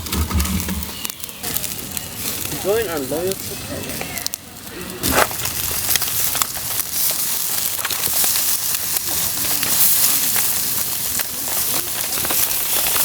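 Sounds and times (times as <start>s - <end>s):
campfire crackles and pops: 0.0s - 13.0s
food sizzling in a pan: 0.0s - 13.0s.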